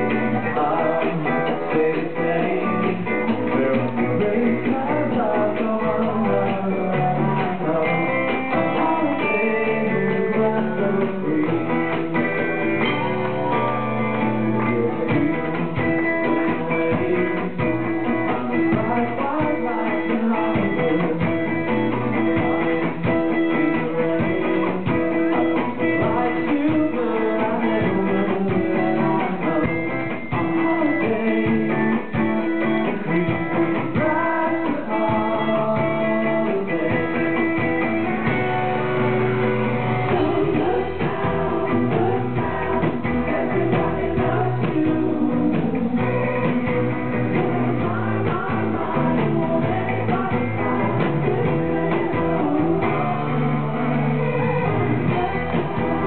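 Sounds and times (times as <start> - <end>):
drums: 0.0 - 56.0
electric guitars: 0.0 - 56.0
person singing: 0.0 - 56.0.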